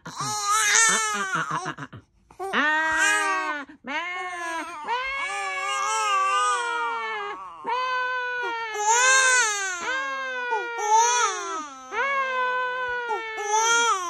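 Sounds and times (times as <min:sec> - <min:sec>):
infant crying: 0:00.0 - 0:01.8, 0:02.4 - 0:14.0.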